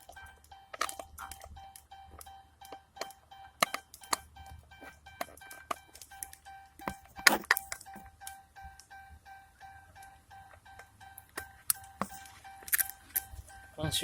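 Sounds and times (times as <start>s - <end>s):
plastic parts clicking and knocking: 0.0s - 9.0s, 10.0s - 13.6s
electronic warning chime: 0.0s - 14.0s.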